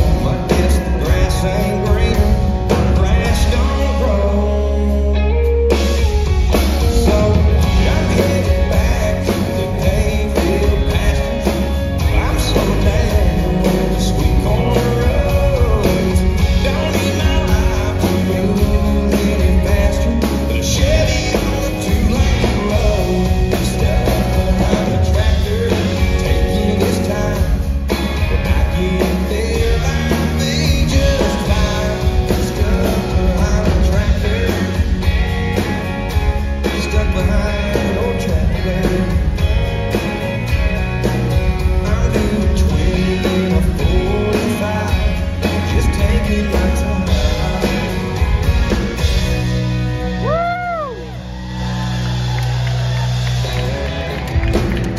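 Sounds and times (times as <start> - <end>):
strummed acoustic guitar: 0.0 - 50.3
man singing: 0.0 - 51.4
band accompaniment: 0.0 - 54.9.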